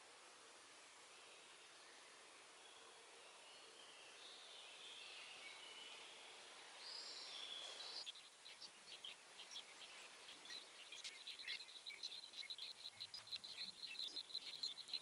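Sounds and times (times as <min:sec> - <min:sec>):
soft hiss: 0:00.0 - 0:15.0
distant birdsong: 0:01.6 - 0:15.0.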